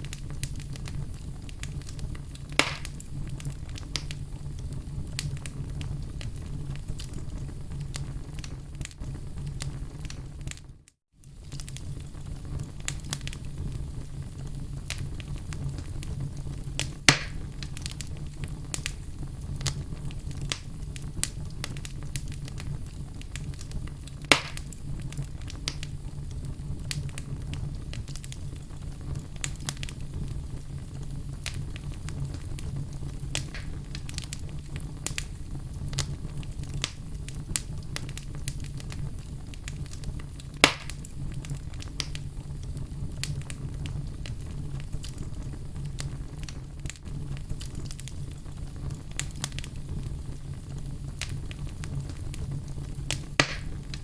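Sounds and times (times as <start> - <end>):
sharp pops from fire: 0.0 - 54.0
wood fire crackling: 0.0 - 54.0.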